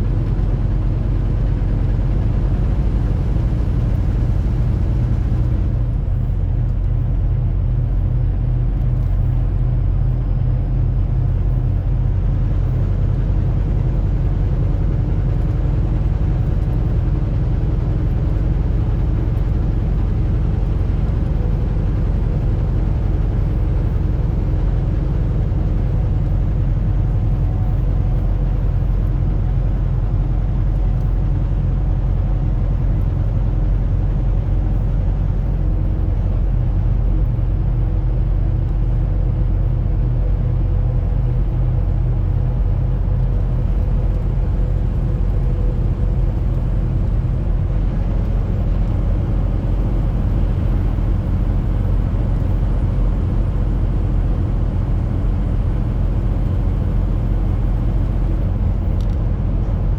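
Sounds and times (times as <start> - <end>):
road rumble: 0.0 - 59.9
truck engine drone: 0.0 - 59.9.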